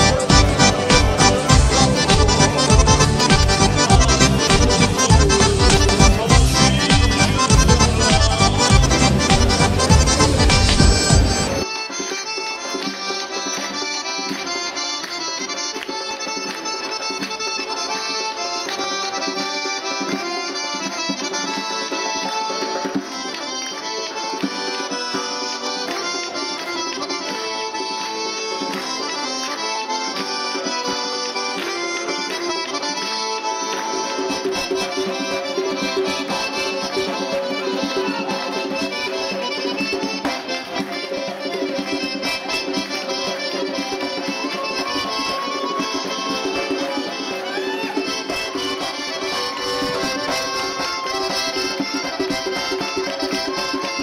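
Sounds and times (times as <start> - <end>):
accordion dance tune: 0.0 - 54.0
hand-clapping: 0.0 - 54.0.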